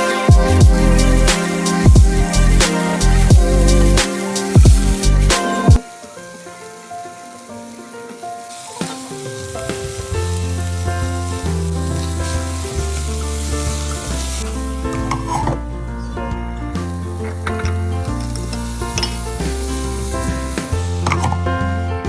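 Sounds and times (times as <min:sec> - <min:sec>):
food sizzling in hot oil: 0:00.0 - 0:15.5, 0:16.8 - 0:21.7
background music: 0:00.0 - 0:22.0.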